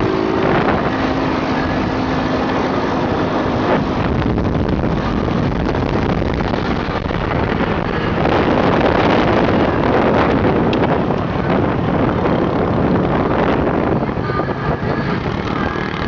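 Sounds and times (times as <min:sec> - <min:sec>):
atv engine running: 0:00.0 - 0:16.0
wind buffeting microphone: 0:00.0 - 0:16.0.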